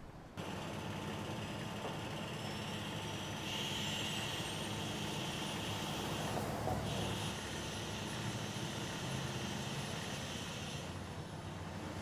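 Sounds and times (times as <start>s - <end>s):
diesel engine running: 0.4s - 12.0s.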